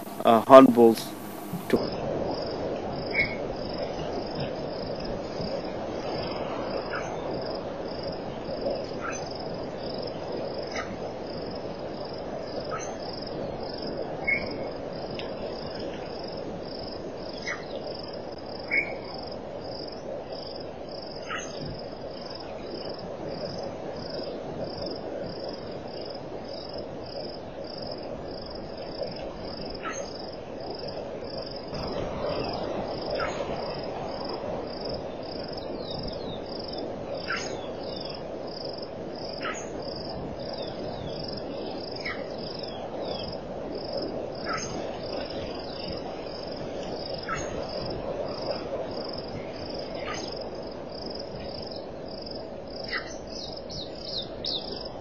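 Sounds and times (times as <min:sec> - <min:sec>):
insects chirping: 0:00.0 - 0:55.0
low background hiss: 0:00.0 - 0:55.0.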